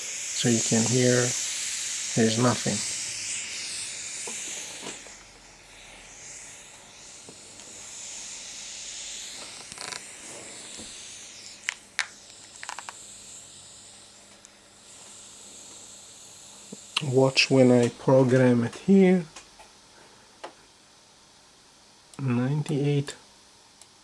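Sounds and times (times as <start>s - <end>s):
radio static hiss: 0.0s - 19.5s, 22.2s - 23.2s.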